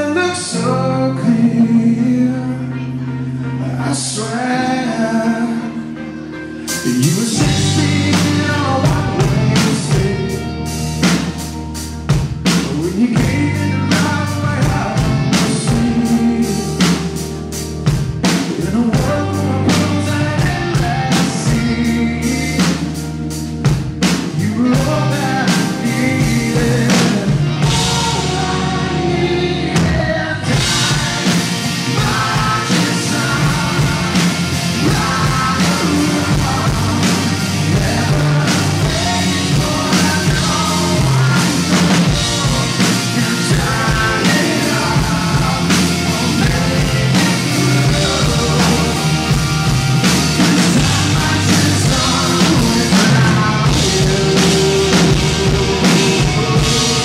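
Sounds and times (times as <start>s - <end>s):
man singing: 0.0s - 11.5s, 12.2s - 57.0s
bass: 0.0s - 57.0s
electric guitars: 0.0s - 57.0s
drum kit: 6.6s - 57.0s.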